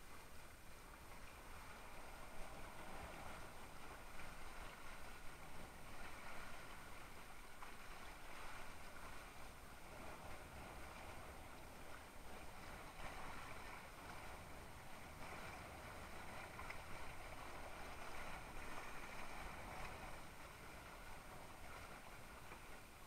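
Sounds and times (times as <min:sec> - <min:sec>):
water rushing along a board hull: 0:00.0 - 0:23.0.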